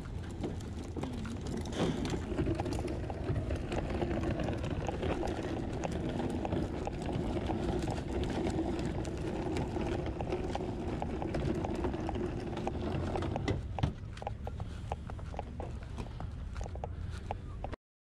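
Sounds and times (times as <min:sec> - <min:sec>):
cart wheels rattling over asphalt: 0:00.0 - 0:17.8.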